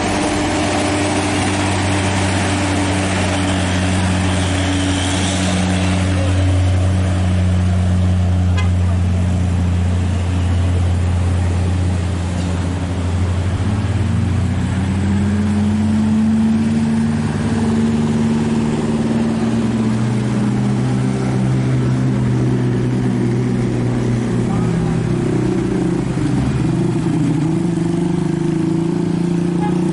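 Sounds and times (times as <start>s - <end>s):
diesel truck engine labouring: 0.0s - 29.9s
higher engine tone: 0.0s - 29.9s.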